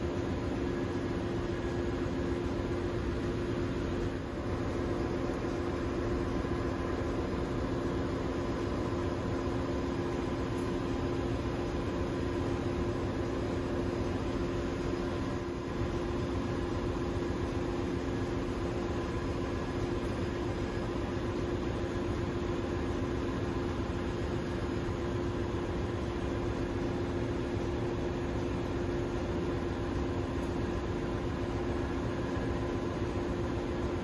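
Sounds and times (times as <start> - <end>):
engine-room machinery drone: 0.0 - 34.0.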